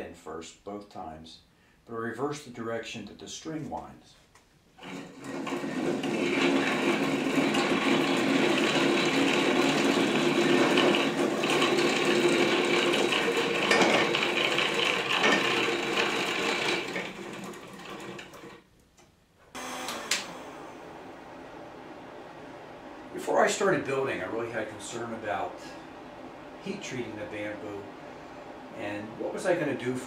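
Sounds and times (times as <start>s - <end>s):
string binder machine whirring: 4.8s - 18.7s, 19.5s - 30.0s.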